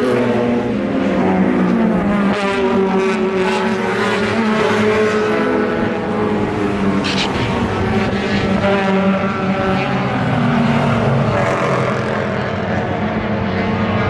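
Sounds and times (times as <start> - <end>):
race car engines running hard: 0.0 - 14.0.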